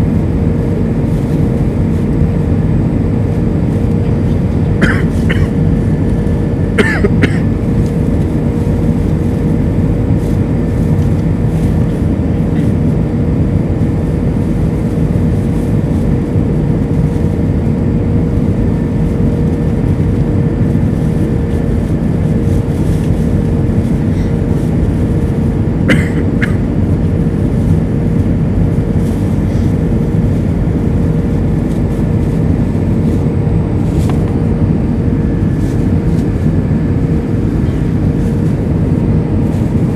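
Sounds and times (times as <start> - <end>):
aircraft cabin engine roar: 0.0 - 39.9
constant hum: 0.0 - 39.9.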